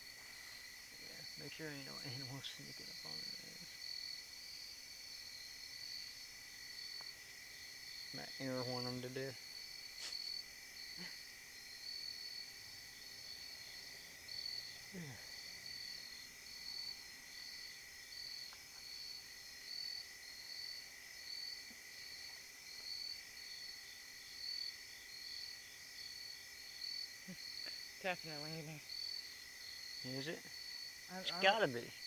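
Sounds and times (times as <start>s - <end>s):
insects chirring: 0.0s - 32.0s
low insect drone: 0.0s - 32.0s.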